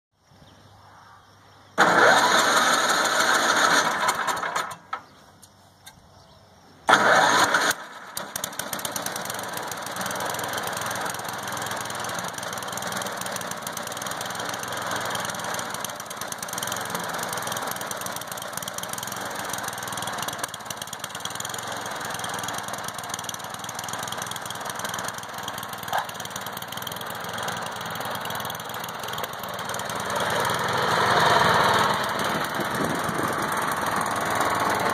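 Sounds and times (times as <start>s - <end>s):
electric starter cranking engine: 1.8s - 5.0s, 6.9s - 34.9s
small engine running steadily: 1.8s - 5.0s, 6.9s - 34.9s.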